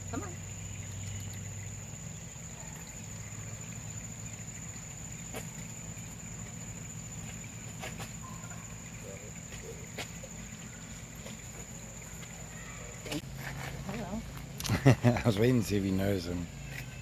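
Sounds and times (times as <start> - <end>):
insect drone: 0.0 - 17.0
low steady hum: 0.0 - 17.0.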